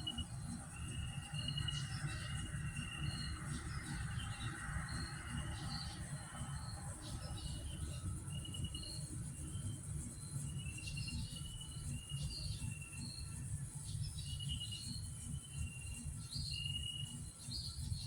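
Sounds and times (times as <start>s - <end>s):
steady high-pitched buzz: 0.0s - 18.0s.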